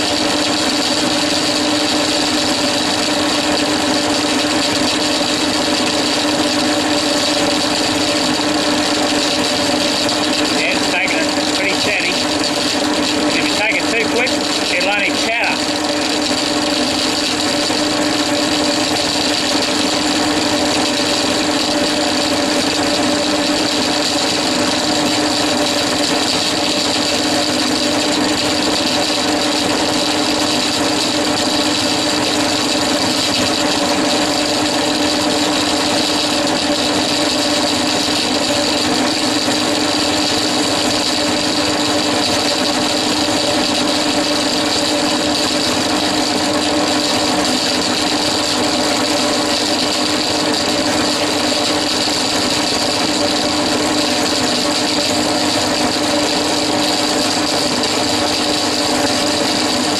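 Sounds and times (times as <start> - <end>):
drill press running: 0.0 - 59.9
high cutting whine: 0.0 - 59.9.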